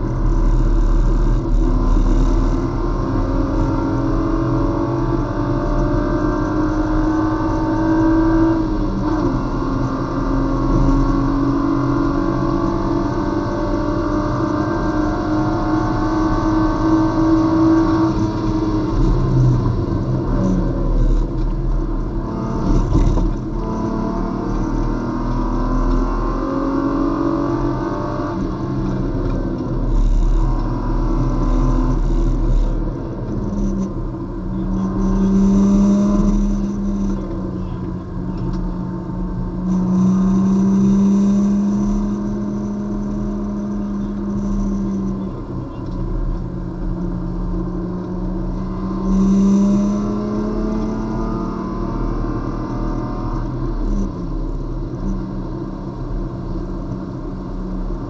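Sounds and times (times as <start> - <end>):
race car engine revving: 0.0 - 58.0
road and wind noise: 0.0 - 58.0.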